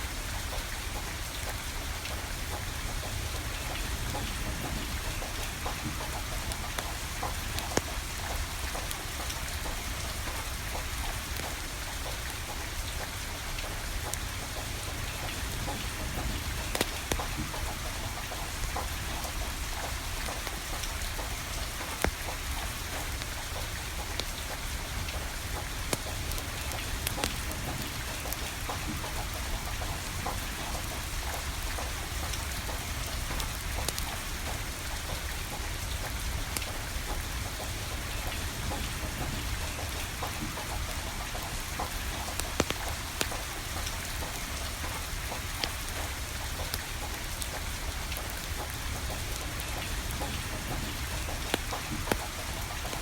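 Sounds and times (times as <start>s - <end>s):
steady rain falling: 0.0s - 53.0s
wood fire crackling: 1.3s - 53.0s.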